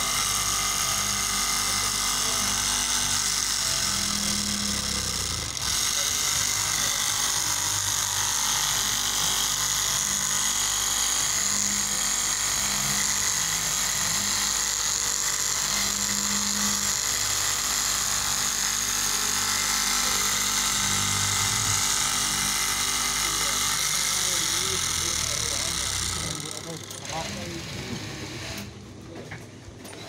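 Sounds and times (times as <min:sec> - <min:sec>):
cloth cutting machine whining: 0:00.0 - 0:28.8.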